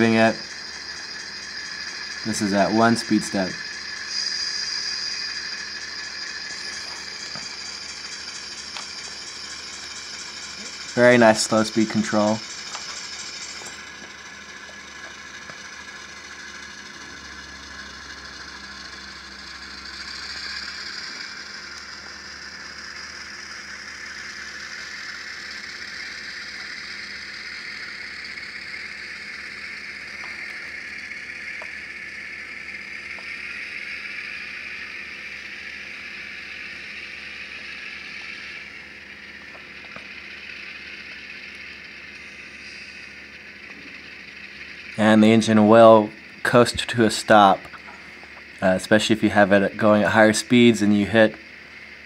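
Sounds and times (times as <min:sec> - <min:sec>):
diesel locomotive engine sound: 0:00.0 - 0:52.0.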